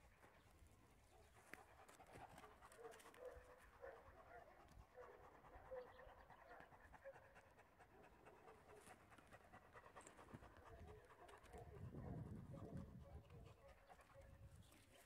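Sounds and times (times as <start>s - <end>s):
dog panting: 1.0s - 15.0s.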